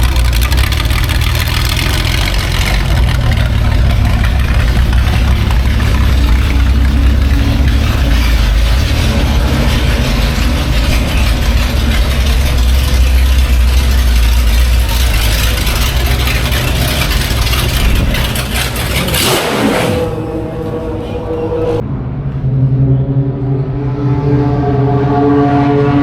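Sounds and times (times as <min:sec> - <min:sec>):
racing car engine rumbling: 0:00.0 - 0:26.0.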